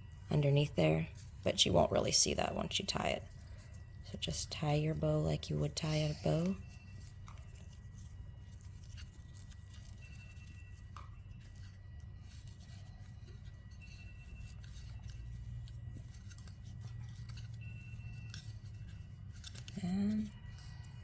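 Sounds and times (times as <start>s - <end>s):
ribbon rustling and clicking: 1.2s - 21.0s.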